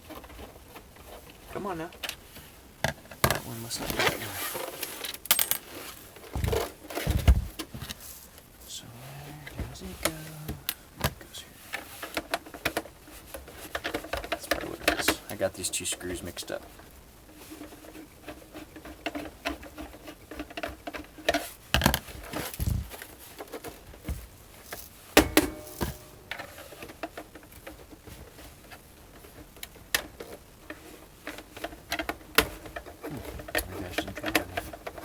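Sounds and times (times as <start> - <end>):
scratchy clicks and scrapes: 0.0 - 35.0.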